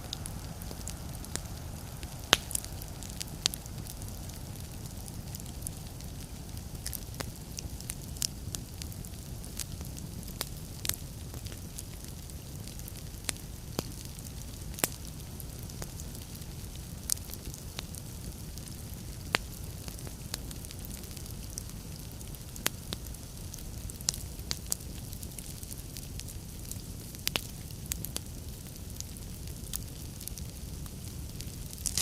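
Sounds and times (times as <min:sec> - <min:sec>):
fire rumbling: 0:00.0 - 0:32.0
logs crackling and popping: 0:00.0 - 0:32.0.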